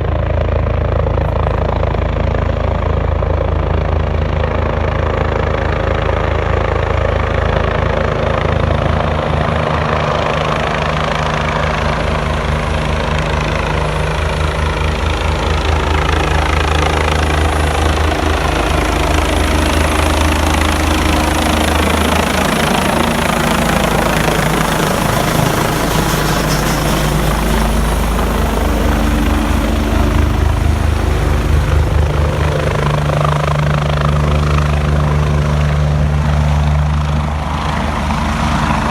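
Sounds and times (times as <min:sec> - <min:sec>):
helicopter rotor chop: 0:00.0 - 0:38.9
high turbine whine: 0:00.0 - 0:38.9.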